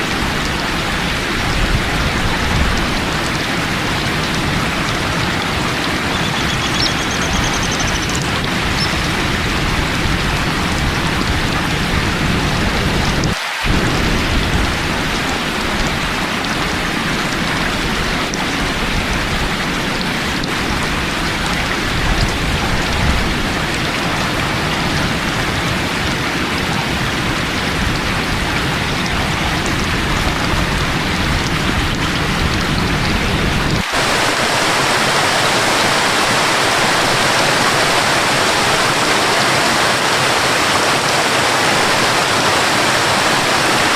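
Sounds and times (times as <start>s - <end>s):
loud rain with deep rumble: 0.0s - 43.9s
waterfall rushing: 0.0s - 43.9s.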